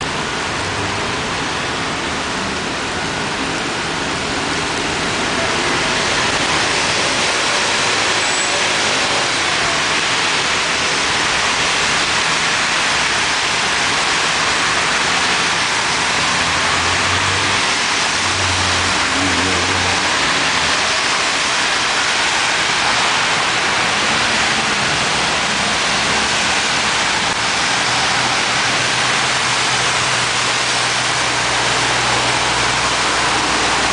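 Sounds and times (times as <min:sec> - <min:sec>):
cars passing on wet road: 0:00.0 - 0:33.9
heavy rain pouring: 0:00.0 - 0:33.9.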